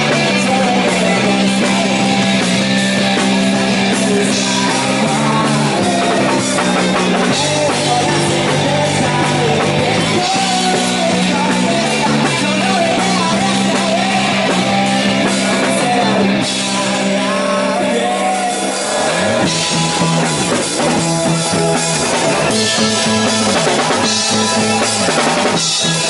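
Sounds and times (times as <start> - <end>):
electric guitar: 0.0 - 26.0
live rock band playing: 0.0 - 26.0
person singing: 0.0 - 26.0.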